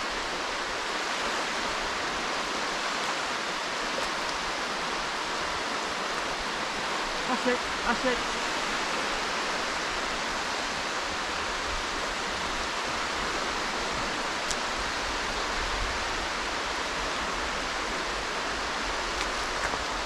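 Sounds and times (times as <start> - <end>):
small waves washing onto shore: 0.0 - 20.0
wind on microphone: 0.0 - 20.0.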